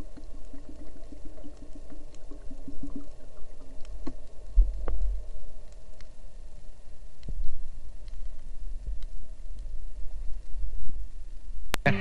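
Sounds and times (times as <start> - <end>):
underwater bubbling gurgles: 0.0 - 11.2
low underwater rumble: 0.0 - 11.7.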